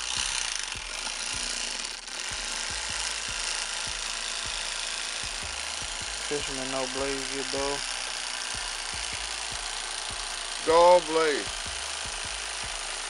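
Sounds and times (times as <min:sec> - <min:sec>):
electric fillet knife running: 0:00.0 - 0:13.0.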